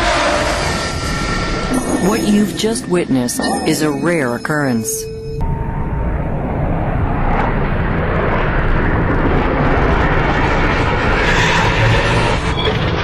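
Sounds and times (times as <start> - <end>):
jet engine noise: 0.0 - 3.2, 3.8 - 13.0.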